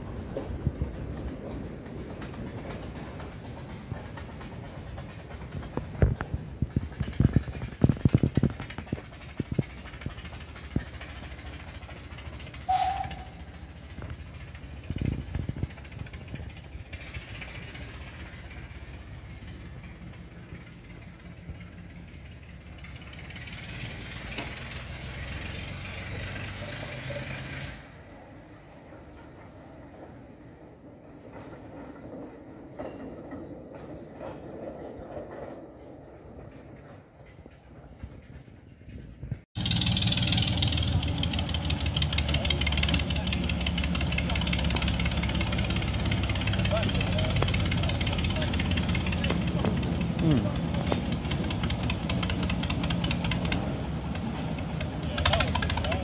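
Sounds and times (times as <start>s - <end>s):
train rumbling: 0.0s - 56.0s
wheels clattering: 0.0s - 56.0s.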